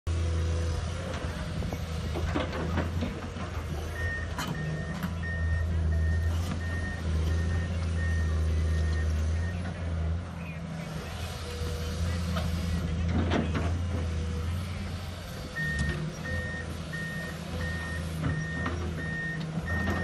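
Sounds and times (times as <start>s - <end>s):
excavator diesel engine running: 0.1s - 20.0s.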